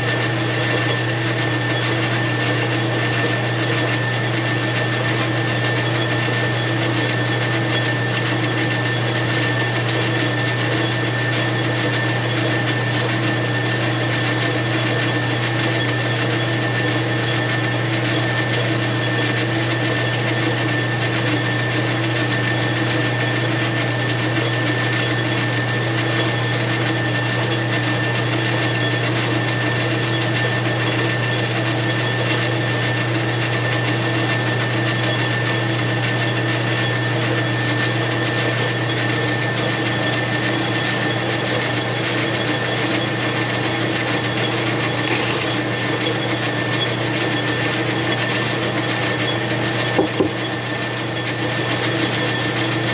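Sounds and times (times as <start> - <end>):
metal lathe humming and whining: 0.0 - 52.9.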